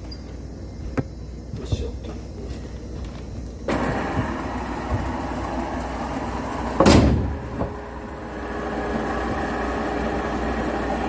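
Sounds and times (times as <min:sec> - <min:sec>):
sawmill machinery humming: 0:01.5 - 0:11.0.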